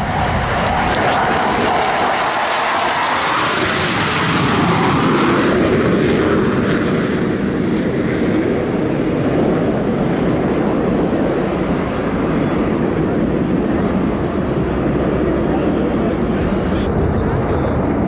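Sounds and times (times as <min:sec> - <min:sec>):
jet aircraft passing: 0:00.0 - 0:18.0.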